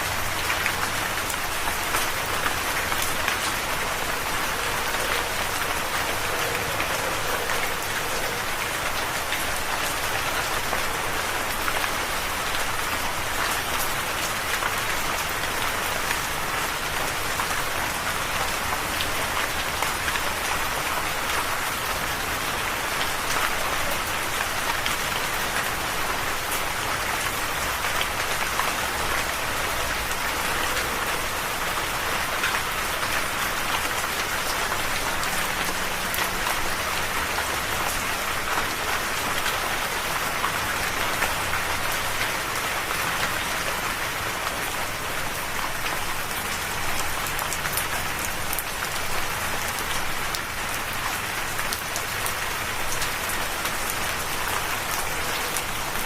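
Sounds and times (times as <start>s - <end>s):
individual raindrops: 0.0s - 56.0s
rain falling: 0.0s - 56.0s.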